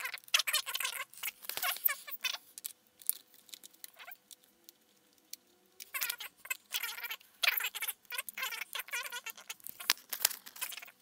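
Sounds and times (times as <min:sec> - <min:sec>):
fingers clicking and rustling plastic: 0:00.0 - 0:11.0.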